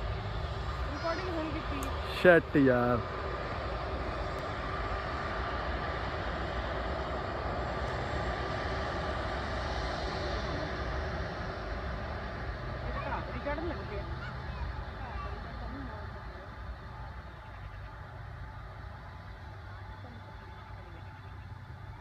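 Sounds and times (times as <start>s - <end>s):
faint high whine: 0.0s - 22.0s
jet engines roaring: 0.0s - 22.0s.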